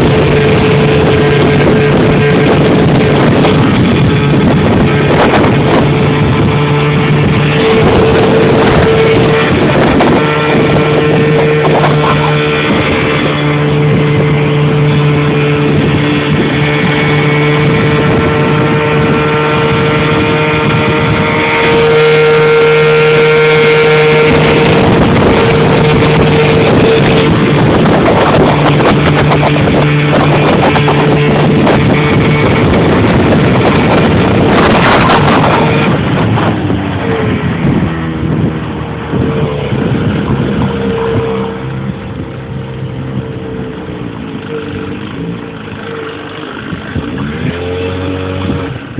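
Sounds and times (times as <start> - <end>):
outboard motor running: 0.0 - 48.9.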